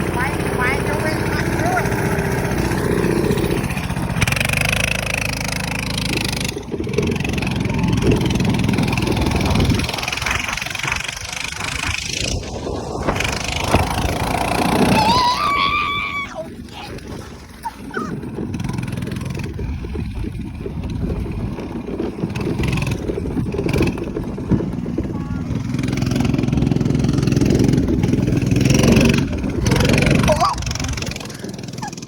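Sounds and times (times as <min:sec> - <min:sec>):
minibike engine running: 0:00.0 - 0:32.0.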